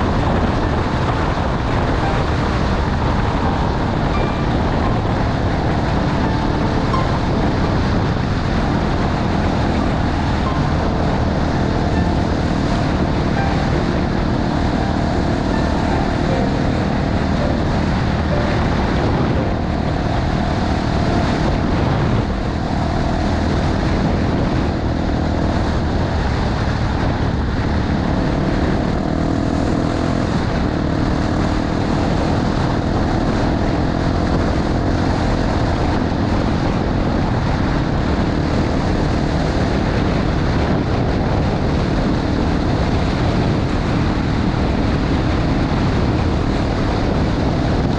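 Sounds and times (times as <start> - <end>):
motorcycle engine cruising: 0.0 - 47.9
wind noise on microphone: 0.0 - 47.9.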